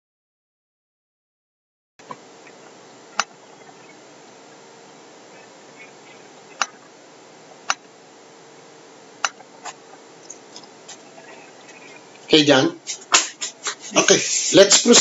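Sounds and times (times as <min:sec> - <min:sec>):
background hiss: 0:02.0 - 0:15.0.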